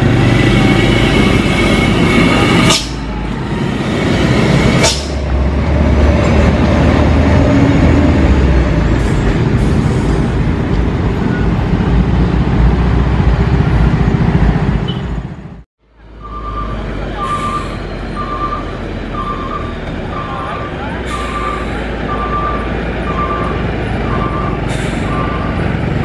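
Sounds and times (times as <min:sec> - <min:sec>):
road traffic: 0:00.0 - 0:26.0
truck diesel engines running: 0:00.0 - 0:26.0.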